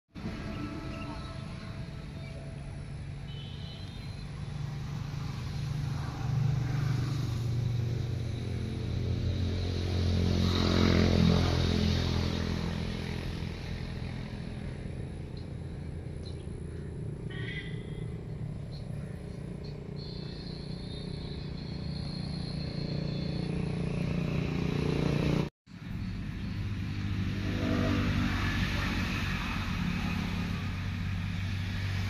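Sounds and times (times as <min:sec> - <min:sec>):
vehicle engine running: 0:00.2 - 0:32.0.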